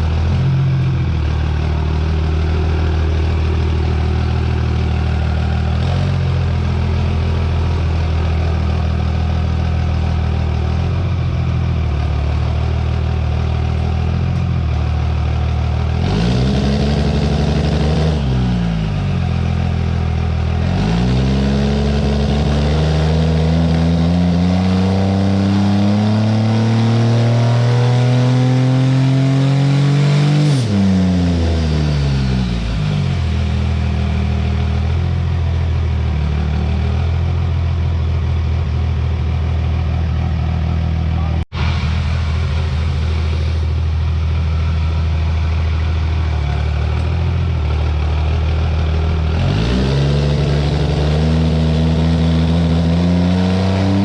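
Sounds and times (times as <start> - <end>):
diesel truck engine idling and revving: 0.0 - 54.0.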